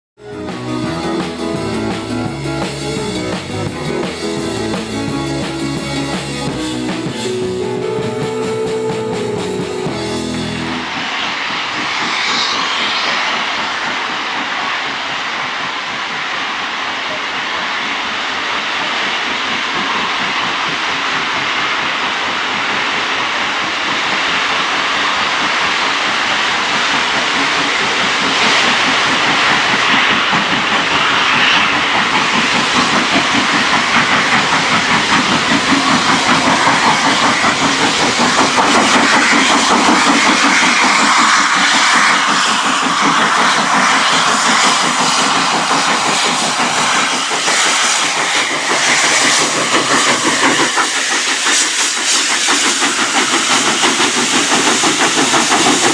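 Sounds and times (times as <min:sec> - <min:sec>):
steady hiss of steam: 0:00.2 - 0:55.9
steam locomotive chuffing: 0:00.2 - 0:55.9.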